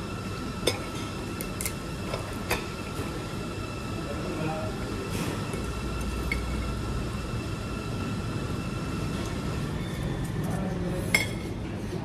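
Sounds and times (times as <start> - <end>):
dining room rumble: 0.0 - 12.0.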